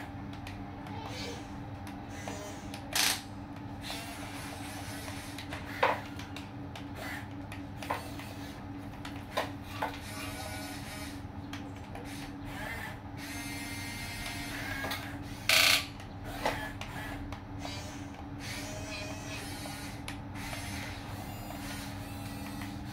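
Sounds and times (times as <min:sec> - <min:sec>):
small electric motors whirring: 0:02.0 - 0:06.2, 0:06.8 - 0:08.6, 0:09.3 - 0:11.3, 0:11.9 - 0:22.9.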